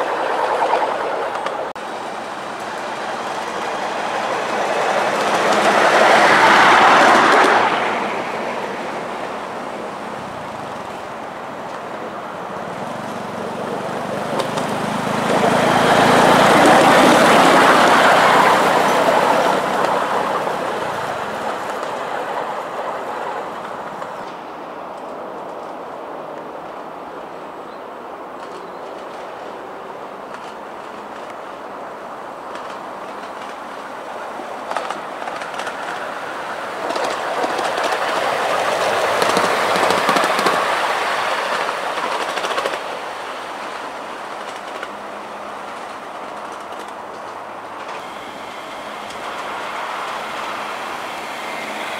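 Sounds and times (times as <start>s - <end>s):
miniature train rolling on track: 0.0s - 25.8s, 28.3s - 51.9s.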